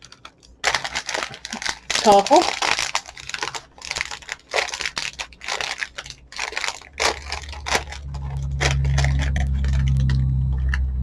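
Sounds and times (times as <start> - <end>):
cereal box packaging crinkling: 0.0 - 10.8
low steady hum: 0.0 - 11.0.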